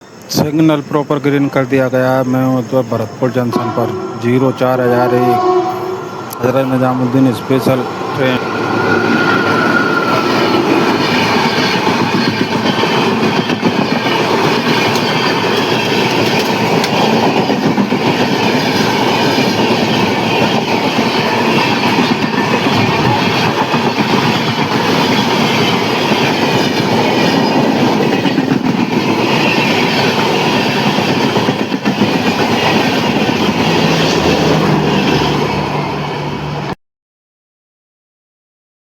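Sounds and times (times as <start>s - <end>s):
train rolling on rails: 0.0s - 36.8s.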